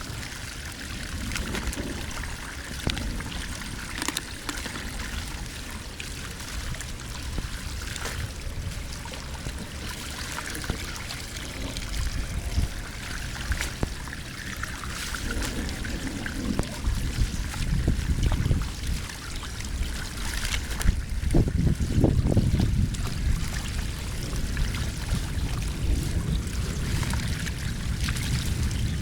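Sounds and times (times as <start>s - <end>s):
water pouring and trickling: 0.0s - 29.0s
low rumble: 4.7s - 29.0s.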